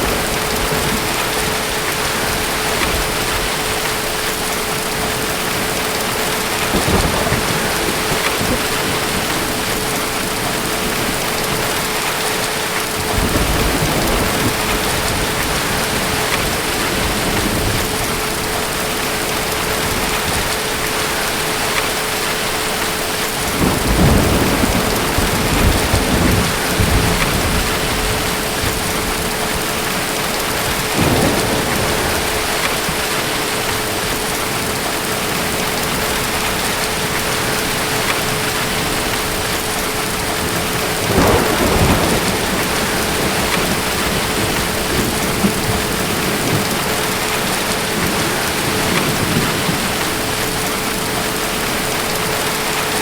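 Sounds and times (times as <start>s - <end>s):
distant thunder rumbling: 0.0s - 53.0s
heavy rain: 0.0s - 53.0s.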